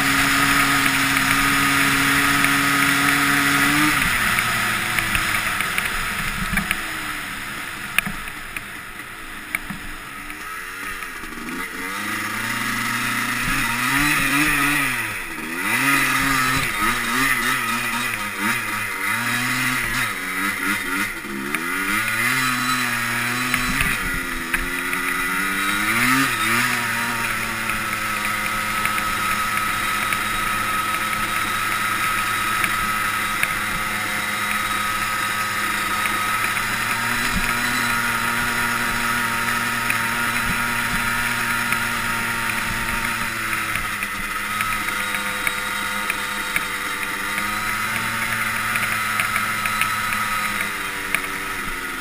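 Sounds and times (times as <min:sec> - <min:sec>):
two-stroke engine revving: 0:00.0 - 0:52.0.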